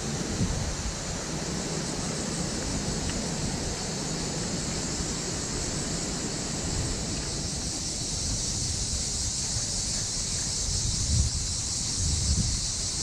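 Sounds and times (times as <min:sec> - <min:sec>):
steady high-pitched hiss: 0:00.0 - 0:13.0
wind buffeting microphone: 0:00.0 - 0:13.0.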